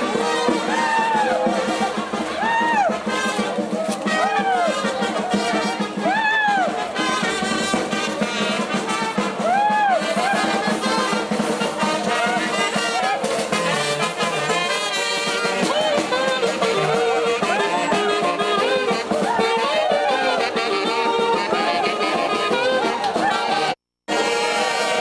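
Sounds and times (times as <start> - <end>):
brass band playing: 0.0 - 25.0.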